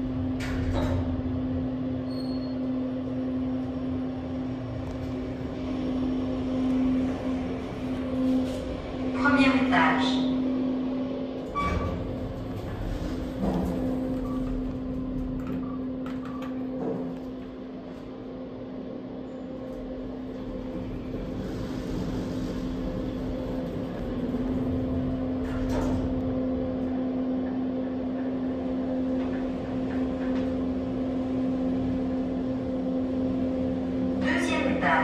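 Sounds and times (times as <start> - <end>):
elevator hum: 0.0 - 35.0.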